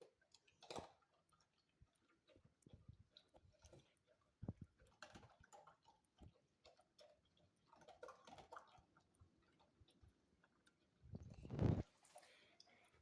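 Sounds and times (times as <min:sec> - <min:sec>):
pet chewing and crunching food: 0:00.0 - 0:13.0.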